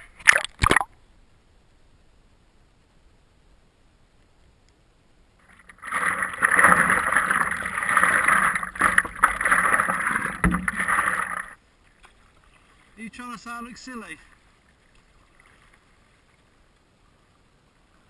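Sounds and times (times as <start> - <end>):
water and wind noise: 0.0 - 18.0.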